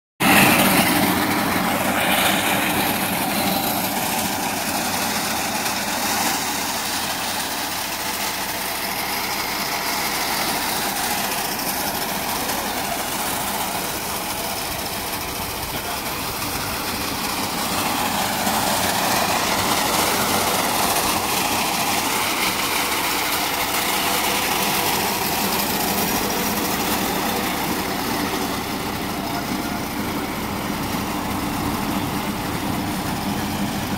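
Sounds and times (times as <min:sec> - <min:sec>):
reaper cutting crop: 0:00.2 - 0:33.9
tractor diesel engine running: 0:00.2 - 0:33.9.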